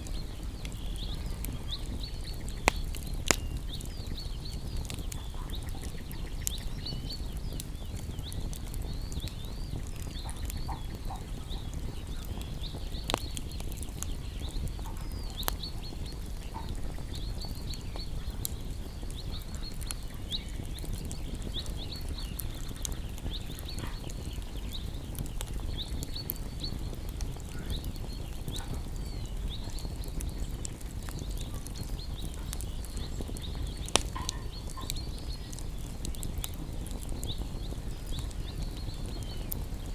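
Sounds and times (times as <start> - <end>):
songbirds chirping: 0.0 - 39.9
wood fire crackling and popping: 0.0 - 39.9.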